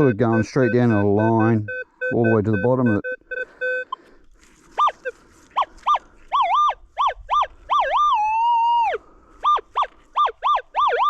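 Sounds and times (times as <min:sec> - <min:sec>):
metal detector long tone: 0:00.0 - 0:03.0, 0:04.8 - 0:11.0
metal detector beeps: 0:00.0 - 0:04.0, 0:04.8 - 0:11.0.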